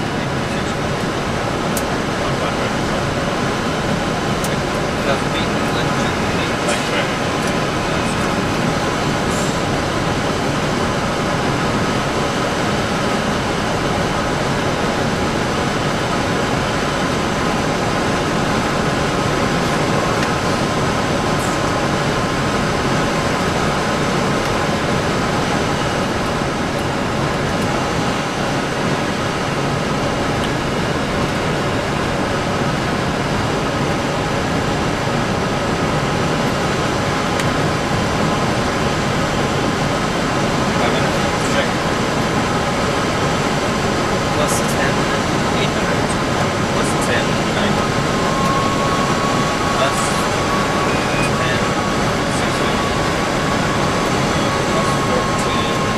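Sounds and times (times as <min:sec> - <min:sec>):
engine and systems hums and whines: 0:00.0 - 0:55.9.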